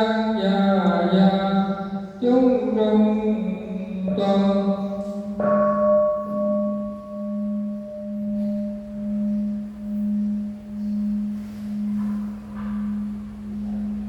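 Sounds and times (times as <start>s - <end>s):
large bell ringing: 0.0s - 14.0s.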